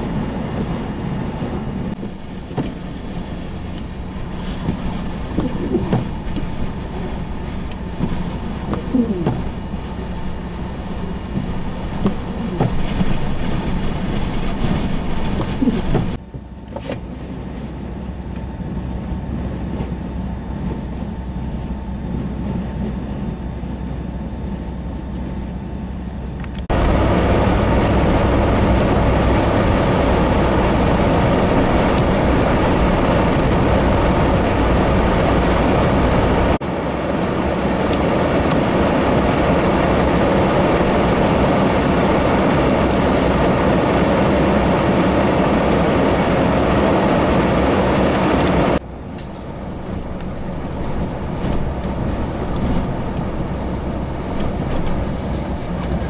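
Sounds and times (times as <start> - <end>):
blizzard wind buffeting: 0.0 - 16.2, 17.0 - 56.0
vehicle cabin rumble: 0.0 - 56.0.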